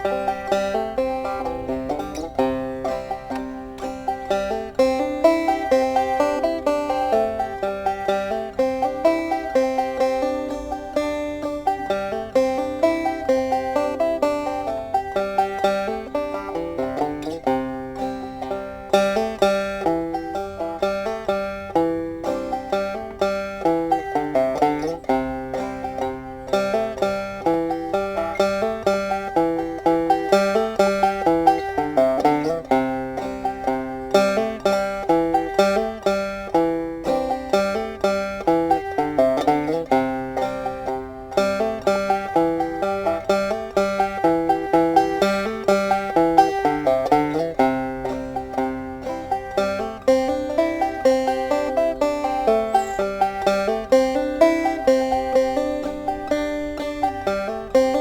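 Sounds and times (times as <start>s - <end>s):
banjo plucked: 0.0s - 58.0s.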